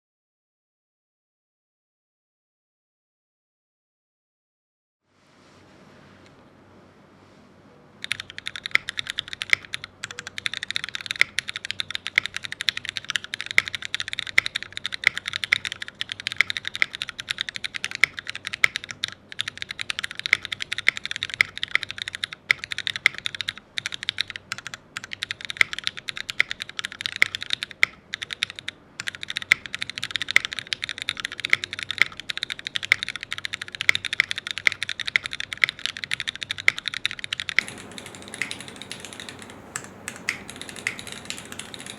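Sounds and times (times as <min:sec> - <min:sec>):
mechanical keyboard typing: 0:08.0 - 0:41.9.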